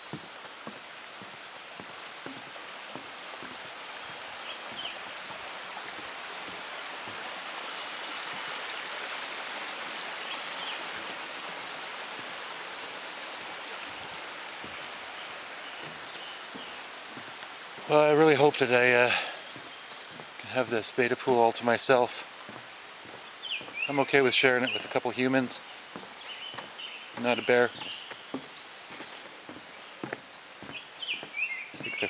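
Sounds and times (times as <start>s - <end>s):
footsteps on wooden boardwalk: 0.0s - 8.6s, 10.8s - 32.0s
running water rushing: 0.0s - 32.0s.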